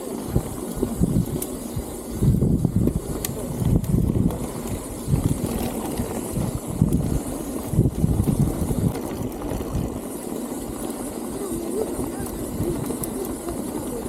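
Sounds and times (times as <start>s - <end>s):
wind buffeting microphone: 0.2s - 14.0s.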